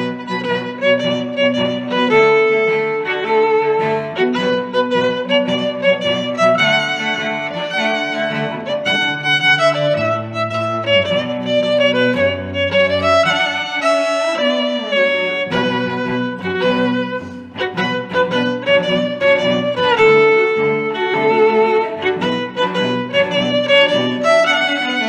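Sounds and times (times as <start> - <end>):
sustained low string notes: 0.0 - 25.0
violin playing quick melody: 0.0 - 25.0.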